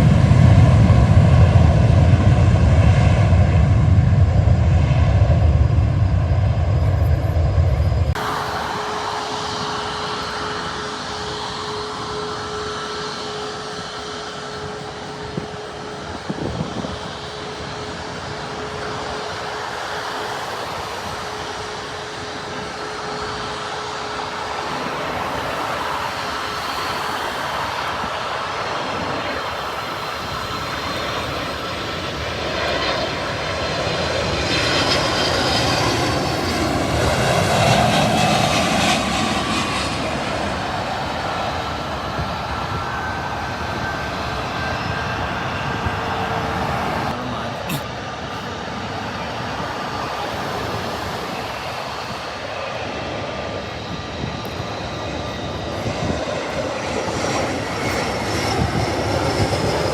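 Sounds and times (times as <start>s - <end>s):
jet engines running with high whine: 0.0s - 59.9s.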